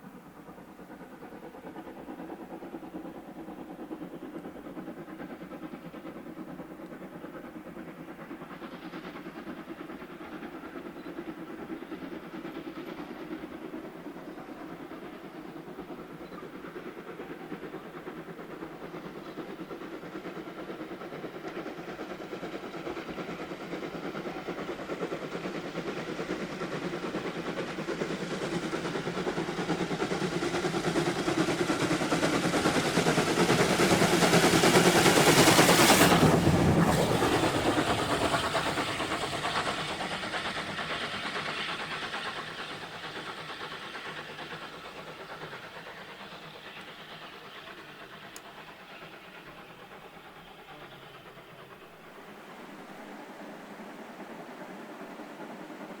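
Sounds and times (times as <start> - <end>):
steam locomotive approaching: 0.0 - 56.0.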